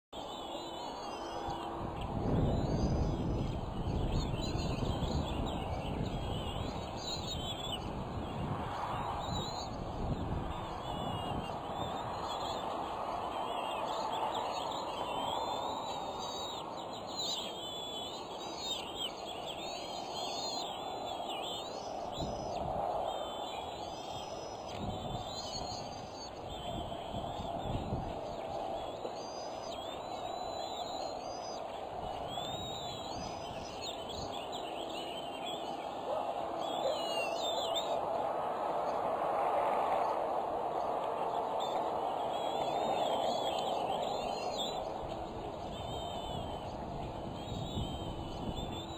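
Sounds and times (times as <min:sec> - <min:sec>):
songbirds chirping and singing: 0:00.2 - 0:39.4, 0:40.0 - 0:48.9
steady hiss-like background noise: 0:00.2 - 0:48.9.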